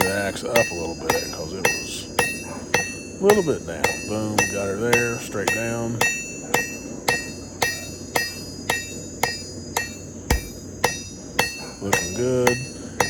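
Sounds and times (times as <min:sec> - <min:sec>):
hammer striking steel on anvil: 0:00.0 - 0:13.0.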